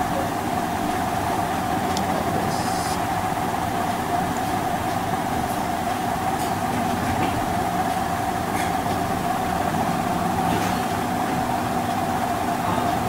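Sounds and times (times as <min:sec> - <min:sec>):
machine hum with high whine: 0:00.0 - 0:13.0.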